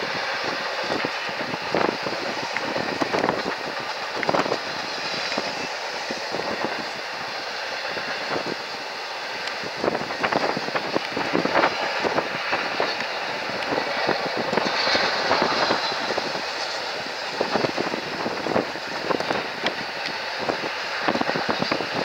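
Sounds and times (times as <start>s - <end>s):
clicks and clanks of train cars: 0.0s - 22.0s
freight cars rolling past: 0.0s - 22.0s.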